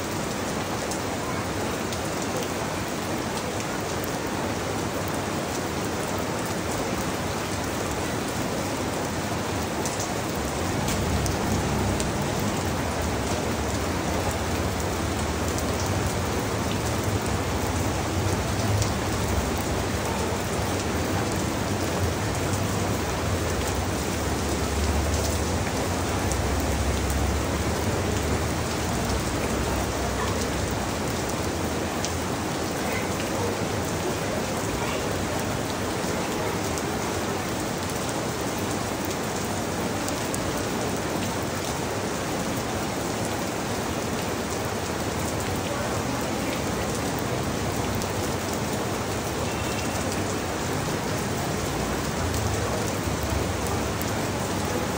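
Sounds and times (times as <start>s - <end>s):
rain on leaves: 0.0s - 54.9s
low city rumble: 4.0s - 49.4s.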